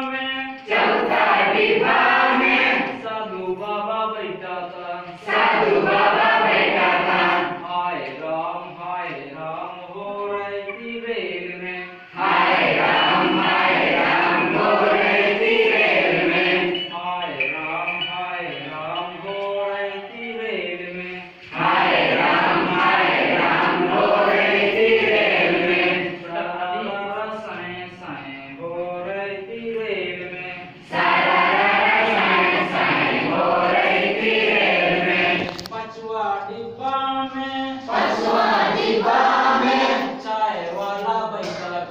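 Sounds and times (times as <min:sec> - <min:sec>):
group chanting and singing: 0:00.0 - 0:41.9.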